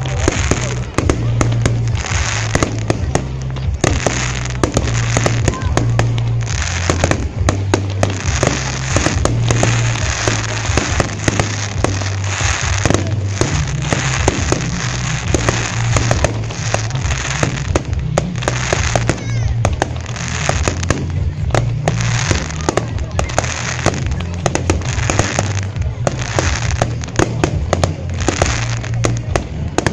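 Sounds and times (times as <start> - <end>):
fireworks bangs and crackles: 0.0 - 29.9
loud music with bass line: 0.0 - 29.9.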